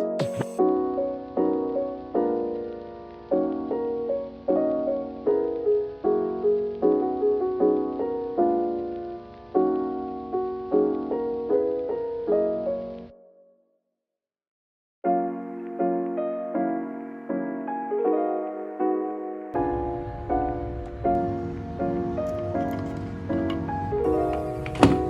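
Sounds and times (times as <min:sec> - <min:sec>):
gentle piano music: 0:00.0 - 0:13.6, 0:15.0 - 0:25.0.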